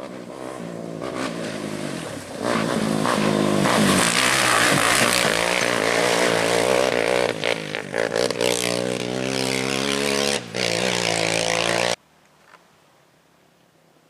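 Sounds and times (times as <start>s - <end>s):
race vehicle engine revving: 0.0s - 12.0s.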